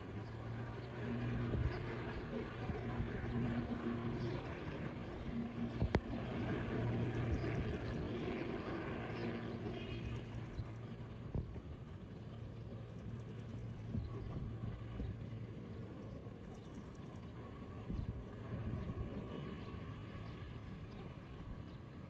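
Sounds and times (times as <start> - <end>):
engine rumble: 0.0 - 22.0.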